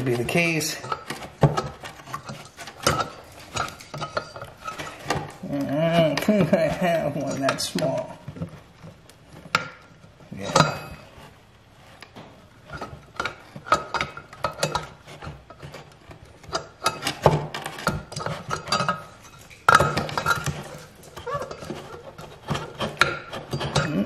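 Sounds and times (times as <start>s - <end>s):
metal clinks and knocks: 0.0s - 24.0s.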